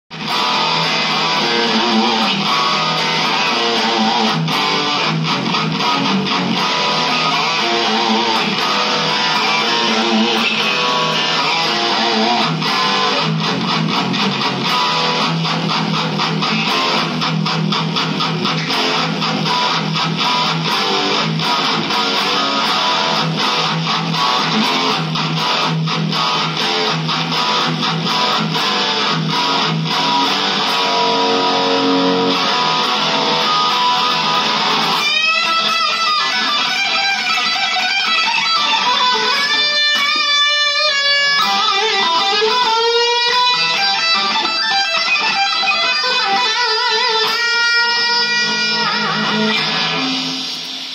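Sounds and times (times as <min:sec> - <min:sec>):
distorted electric guitar: 0:00.1 - 0:50.9.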